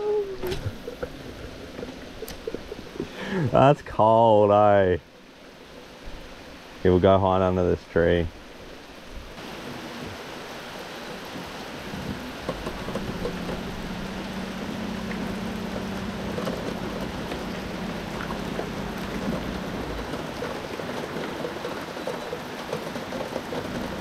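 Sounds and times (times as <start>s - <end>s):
heavy rain on river: 0.0s - 24.0s
rain pattering on metal boat: 0.0s - 24.0s.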